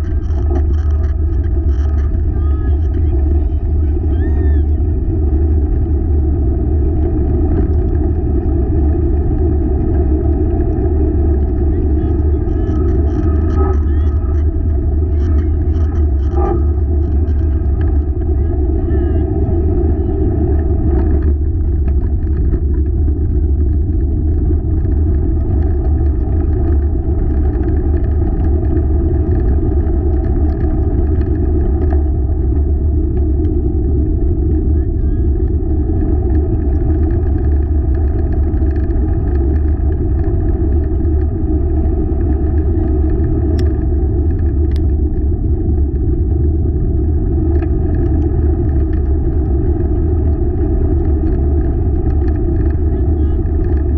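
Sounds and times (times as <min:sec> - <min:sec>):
wheeled rig rumbling on trail: 0:00.0 - 0:53.9.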